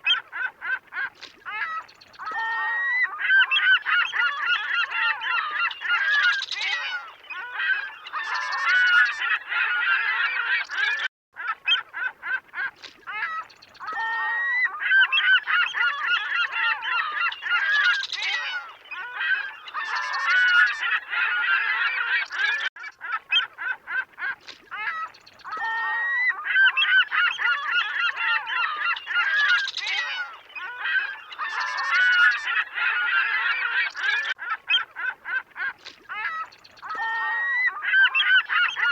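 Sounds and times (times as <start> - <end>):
waterfowl honking: 0.0 - 38.9.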